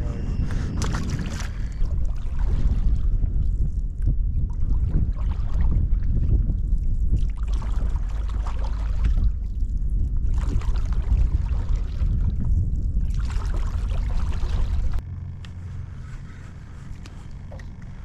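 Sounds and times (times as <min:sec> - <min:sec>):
boat rumble: 0:00.0 - 0:18.0
wind buffeting microphone: 0:00.0 - 0:18.0.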